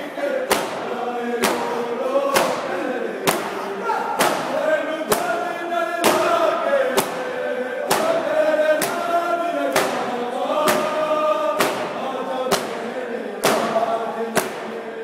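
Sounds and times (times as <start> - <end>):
men chanting together: 0.0 - 15.0
hands beating chests: 0.5 - 5.4, 6.0 - 14.8.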